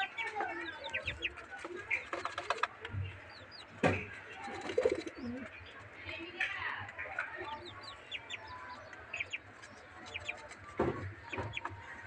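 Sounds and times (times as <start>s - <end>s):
chicks chirping and peeping: 0.0s - 12.0s.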